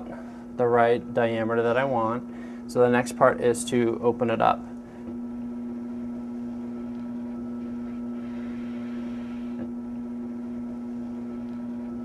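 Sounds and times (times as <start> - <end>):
potter's wheel motor humming: 0.0 - 12.0.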